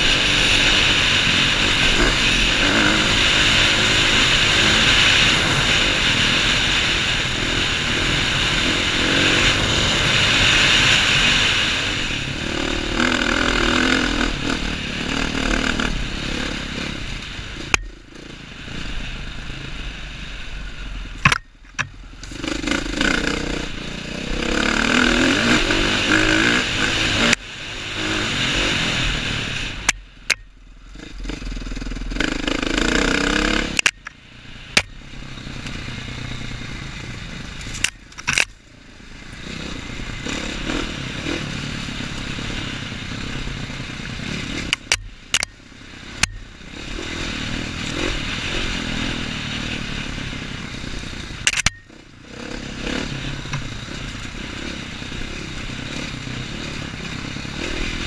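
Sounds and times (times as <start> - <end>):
dirt bike engine revving: 0.0 - 20.2, 21.1 - 34.1, 34.7 - 58.0.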